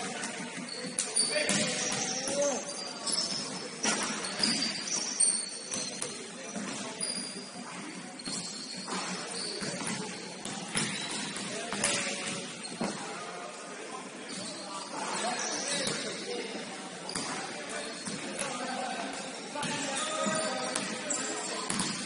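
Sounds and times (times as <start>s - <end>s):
sneakers squeaking on court floor: 0.0s - 13.2s, 14.1s - 22.0s.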